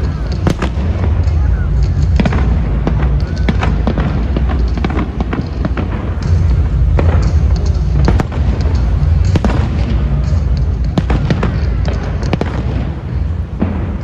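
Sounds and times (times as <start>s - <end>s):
fireworks booming: 0.0s - 14.0s
fireworks cracks and pops: 0.0s - 14.0s
music playing: 0.0s - 14.0s.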